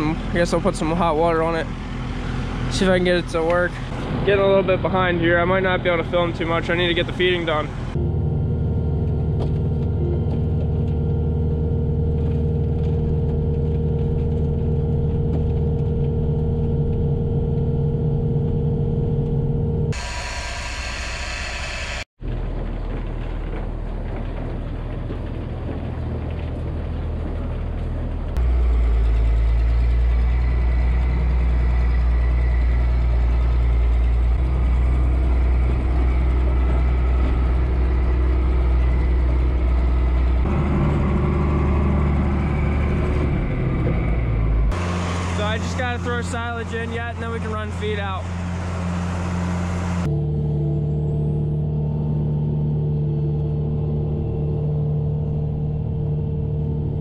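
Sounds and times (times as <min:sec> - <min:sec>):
skid loader idling: 0:00.0 - 0:18.4, 0:19.9 - 0:50.2
tractor engine running: 0:00.0 - 0:57.0.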